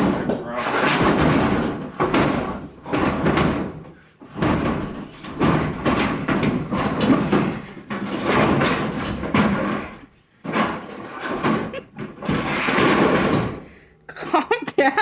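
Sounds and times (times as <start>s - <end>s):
loud banging and rattling: 0.0s - 13.8s.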